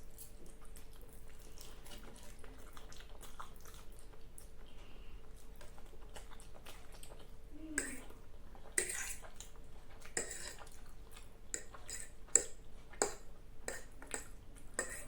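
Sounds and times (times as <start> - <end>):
wet chewing of noodles: 0.0 - 15.0.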